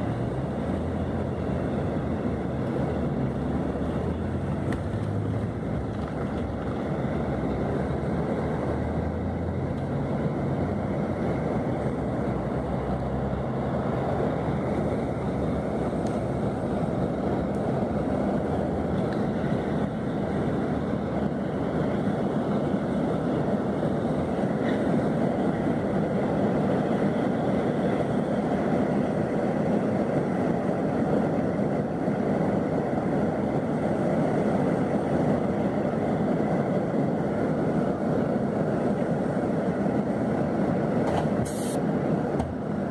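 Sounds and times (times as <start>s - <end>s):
coach engine running: 0.0s - 42.9s.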